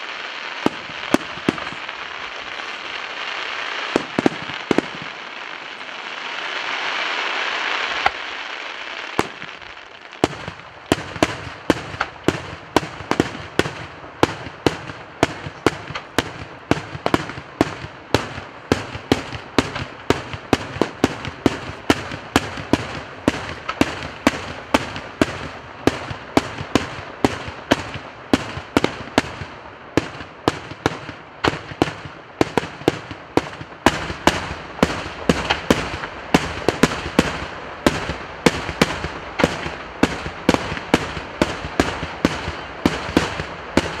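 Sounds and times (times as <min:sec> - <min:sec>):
fireworks crackling: 0:00.0 - 0:44.0.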